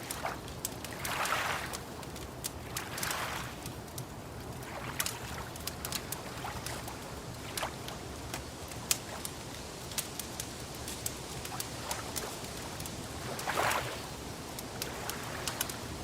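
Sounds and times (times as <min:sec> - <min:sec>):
water lapping: 0:00.0 - 0:10.3, 0:10.9 - 0:16.0
wood fire crackling and popping: 0:00.0 - 0:16.0.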